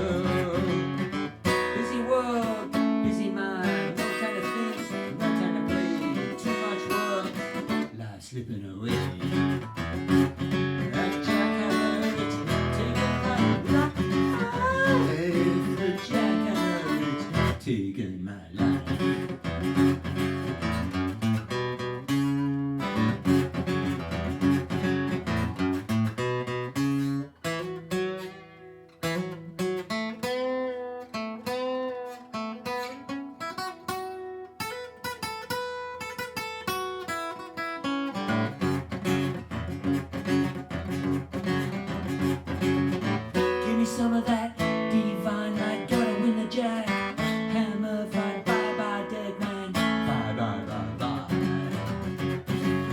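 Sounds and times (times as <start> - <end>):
acoustic guitar strumming and picking: 0.0 - 52.9.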